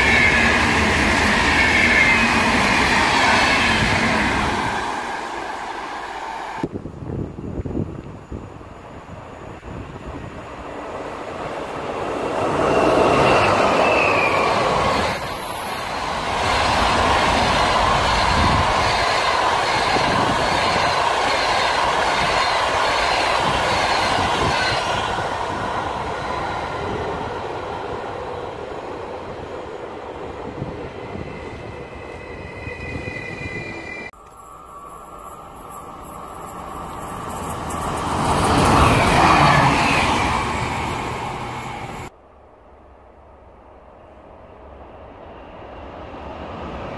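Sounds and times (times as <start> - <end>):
passenger train passing: 0.0 - 46.9.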